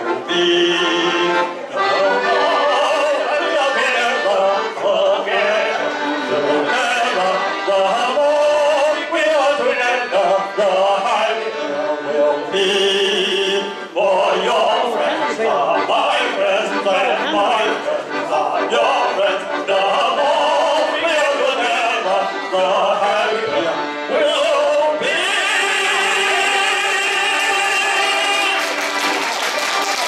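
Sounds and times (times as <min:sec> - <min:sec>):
piano accordion: 0:00.0 - 0:30.0
two men singing: 0:01.9 - 0:28.8.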